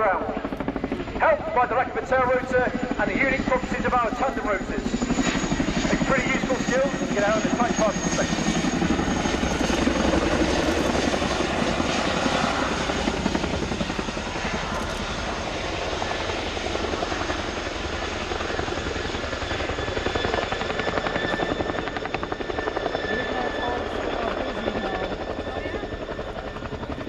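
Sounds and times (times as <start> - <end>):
turbine whine: 0.0 - 27.0.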